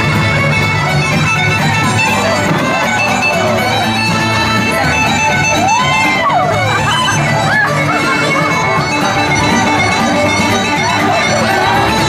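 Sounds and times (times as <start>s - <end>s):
pipes playing melody over drone: 0.0s - 12.0s
string accompaniment: 0.0s - 12.0s.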